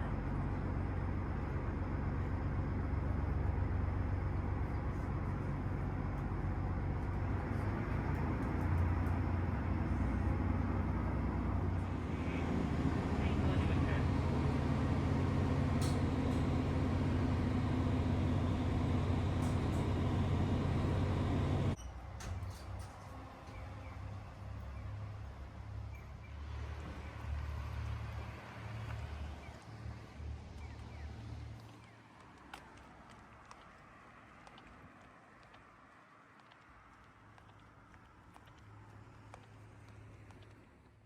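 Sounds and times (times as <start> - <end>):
large vehicle engine humming: 0.0 - 41.0
outdoor background noise: 0.0 - 41.0.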